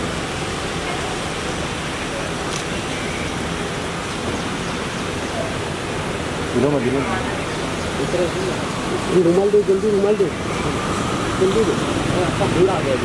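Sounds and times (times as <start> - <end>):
rushing outdoor background noise: 0.0 - 13.0.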